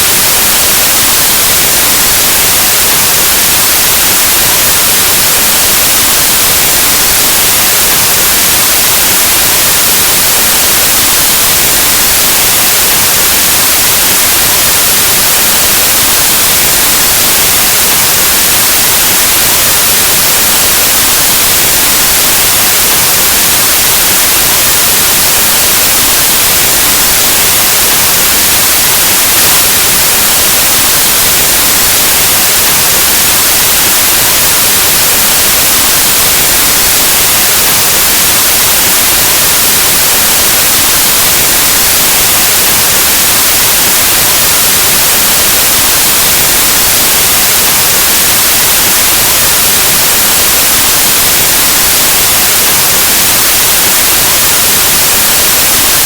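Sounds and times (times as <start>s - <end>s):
loud white noise hiss: 0.0s - 56.0s.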